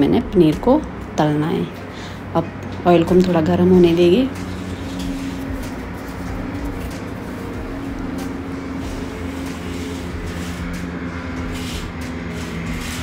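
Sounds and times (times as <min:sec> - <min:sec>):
kitchen hum: 0:00.0 - 0:13.0
oil heating rushing noise: 0:00.0 - 0:13.0.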